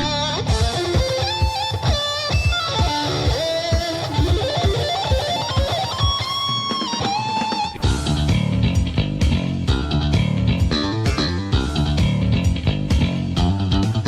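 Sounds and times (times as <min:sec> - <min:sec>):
electric guitar lead: 0:00.0 - 0:09.0, 0:09.6 - 0:14.0
steady drum beat: 0:00.4 - 0:14.0.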